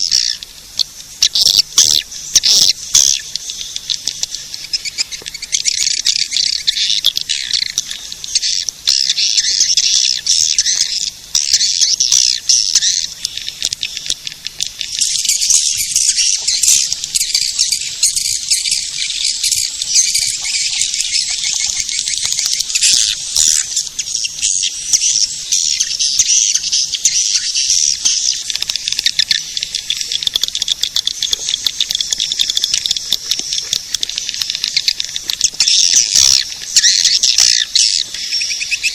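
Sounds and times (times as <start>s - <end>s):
rapid clicking trills: 0.0s - 38.9s.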